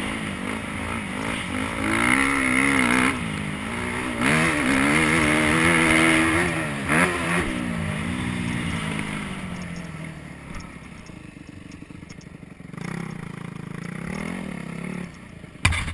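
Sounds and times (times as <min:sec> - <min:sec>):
dirt bike engine revving: 0:00.0 - 0:11.0, 0:12.7 - 0:15.9.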